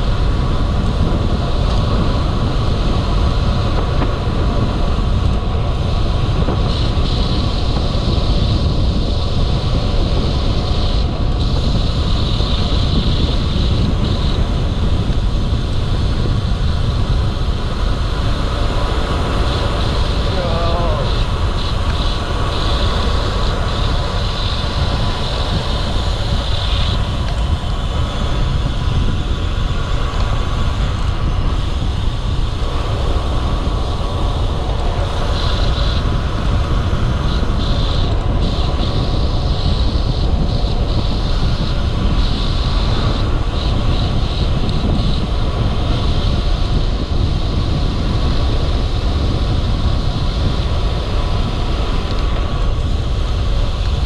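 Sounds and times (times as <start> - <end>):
bicycle road noise: 0.0 - 54.0
wind rumbling on microphone: 0.0 - 54.0.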